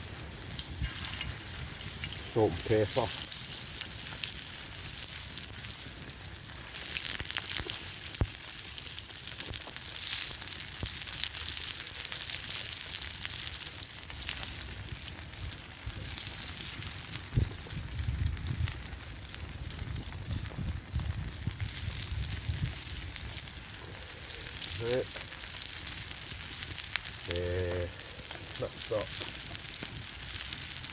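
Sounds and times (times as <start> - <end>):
food frying in hot oil: 0.0 - 30.9.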